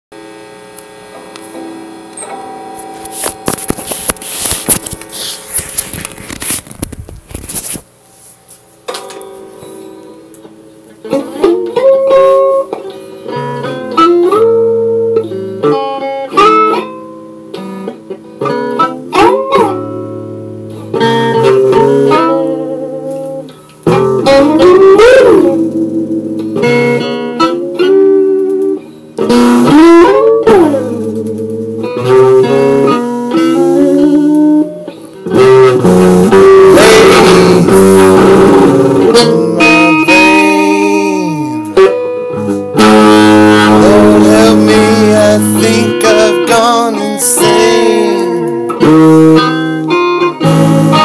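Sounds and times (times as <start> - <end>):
guitar with bent notes: 0.2 - 51.0.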